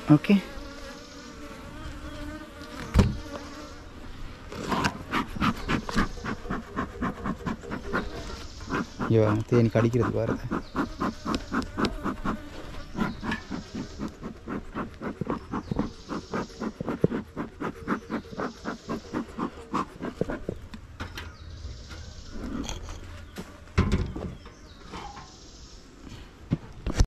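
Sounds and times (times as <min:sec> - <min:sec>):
honeybees buzzing: 0:00.0 - 0:24.8.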